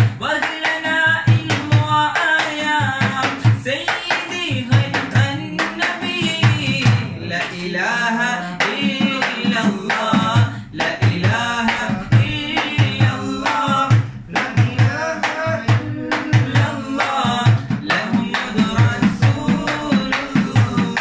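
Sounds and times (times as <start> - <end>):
frame drum beat: 0.0 - 21.0
men singing together: 0.0 - 21.0.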